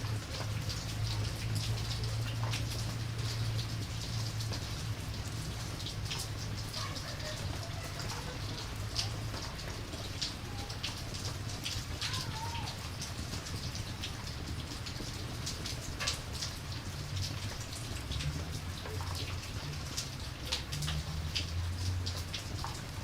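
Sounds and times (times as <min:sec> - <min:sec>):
campfire crackles: 0:00.0 - 0:23.0
steady rain: 0:00.0 - 0:23.0.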